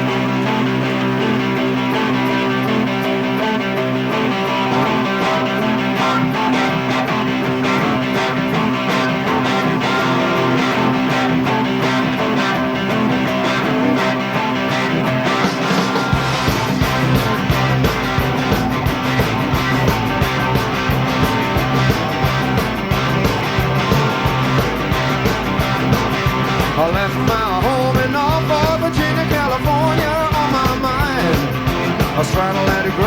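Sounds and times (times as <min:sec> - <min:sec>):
electric guitars strumming chords: 0:00.0 - 0:33.0.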